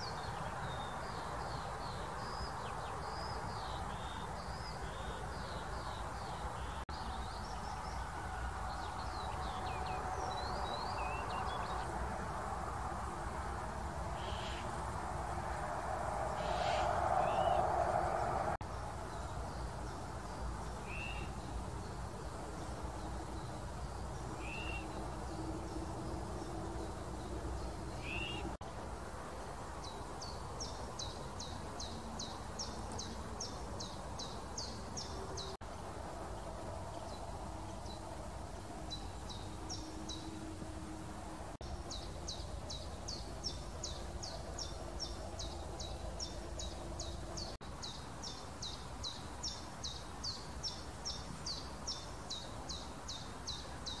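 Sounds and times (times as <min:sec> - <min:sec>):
low outdoor background hum: 0:00.0 - 0:54.0.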